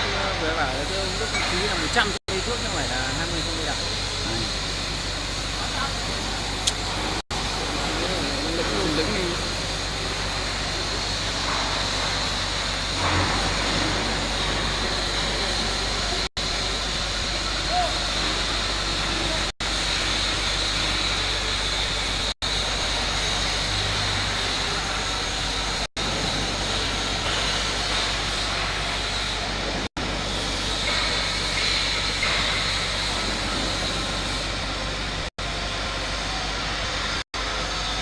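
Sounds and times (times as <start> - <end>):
truck engine running: 2.0 - 38.0.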